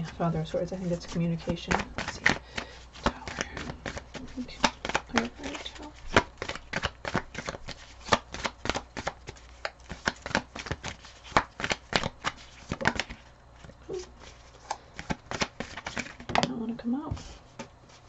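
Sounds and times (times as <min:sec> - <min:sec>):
cards being shuffled: 0:00.0 - 0:18.0.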